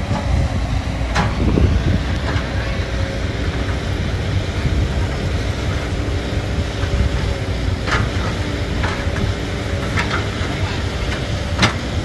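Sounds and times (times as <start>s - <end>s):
diesel machinery rumbling: 0.0s - 12.0s
wind buffeting microphone: 0.0s - 12.0s.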